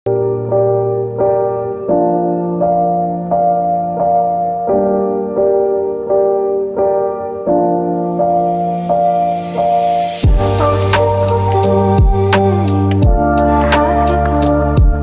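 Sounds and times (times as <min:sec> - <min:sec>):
soft piano chords: 0:00.1 - 0:15.0.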